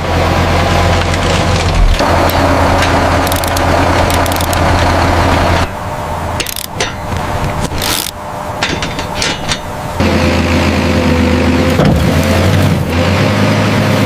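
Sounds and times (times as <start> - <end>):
machine engine humming: 0.0 - 14.0
machinery clanking and scraping: 0.0 - 14.0.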